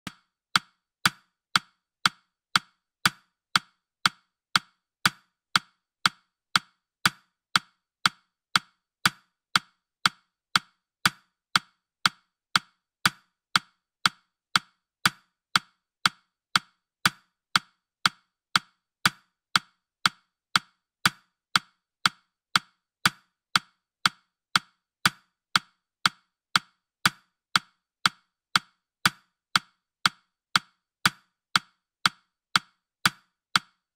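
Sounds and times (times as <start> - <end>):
countdown timer ticking: 0.0 - 33.9.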